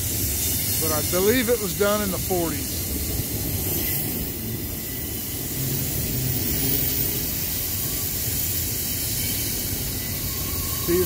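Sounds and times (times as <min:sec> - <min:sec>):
distant diesel locomotives rumbling: 0:00.0 - 0:11.0.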